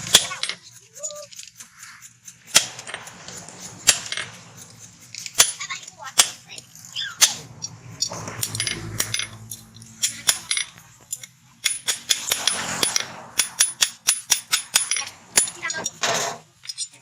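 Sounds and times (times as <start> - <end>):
hammer striking steel on anvil: 2.0 - 16.4.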